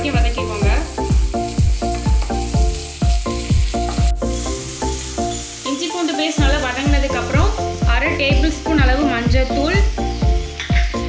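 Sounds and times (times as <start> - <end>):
background music with drum beat: 0.0 - 5.3, 6.4 - 11.0
onion sizzling in oil: 0.0 - 11.0.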